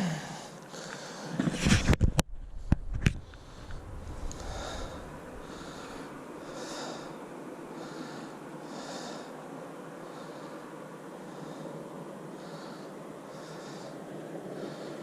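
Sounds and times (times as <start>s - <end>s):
person breathing: 0.0s - 1.4s, 3.2s - 15.0s.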